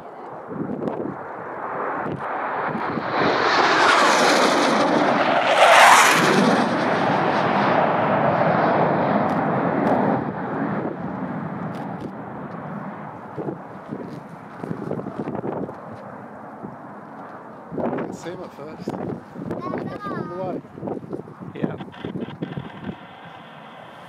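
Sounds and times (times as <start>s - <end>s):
jet passing low overhead: 0.1s - 24.0s.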